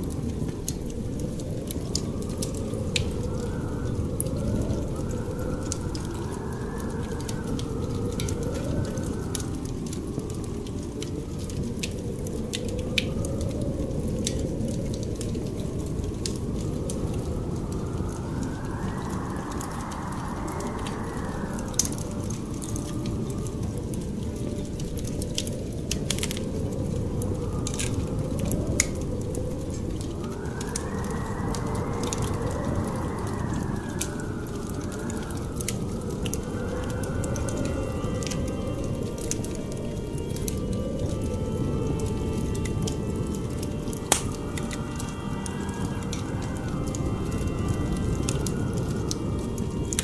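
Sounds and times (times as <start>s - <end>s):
fire crackling and popping: 0.0s - 50.0s
wind rushing and gusting: 0.0s - 50.0s.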